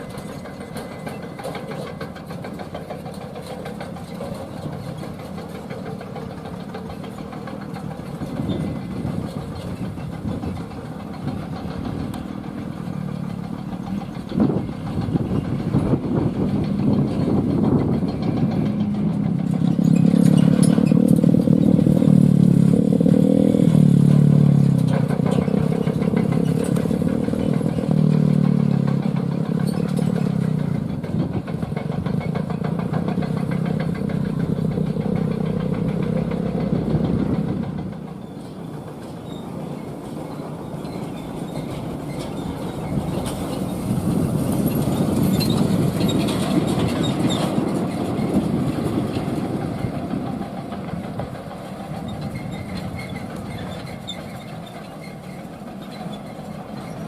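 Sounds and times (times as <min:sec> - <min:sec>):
diesel truck engine under load: 0:00.0 - 0:57.0.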